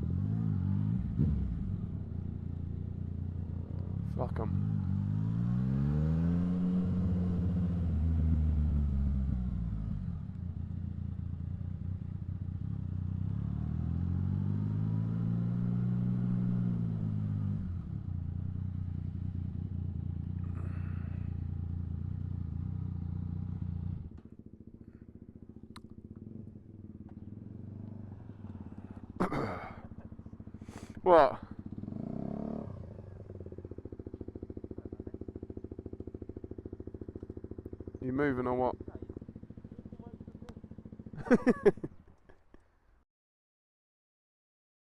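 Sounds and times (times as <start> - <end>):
motorcycle engine revving: 0.0 - 42.1.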